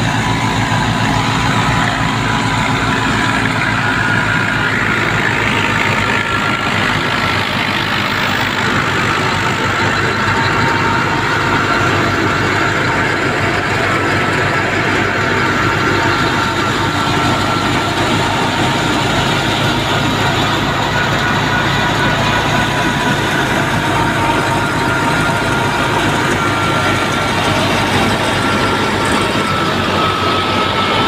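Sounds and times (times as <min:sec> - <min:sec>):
thresher running: 0:00.0 - 0:31.0
tractor engine pulsing: 0:00.0 - 0:31.0.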